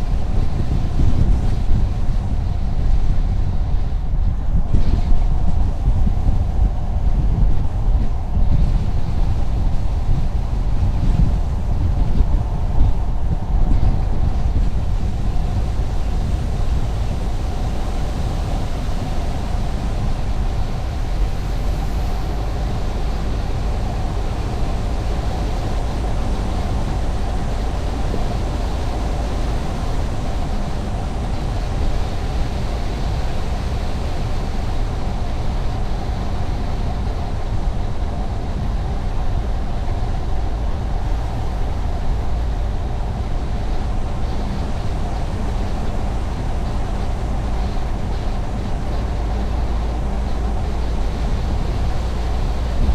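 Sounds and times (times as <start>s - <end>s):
car road rumble: 0.0s - 52.9s.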